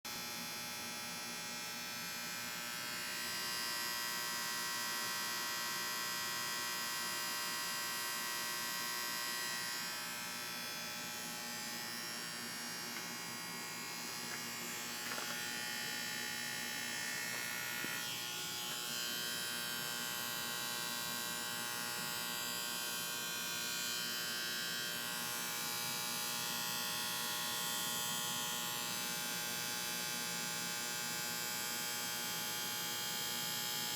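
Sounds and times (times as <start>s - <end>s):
condenser unit electrical hum: 0.1s - 33.9s.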